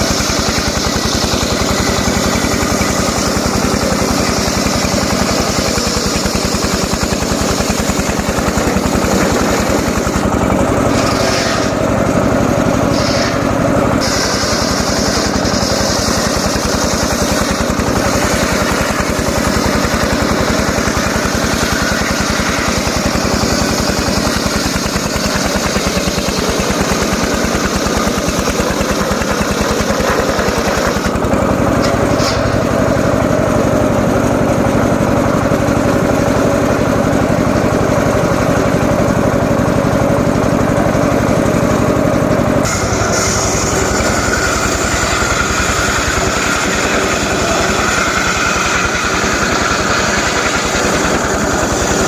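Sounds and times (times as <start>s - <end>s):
circular saw engine running: 0.0s - 52.0s.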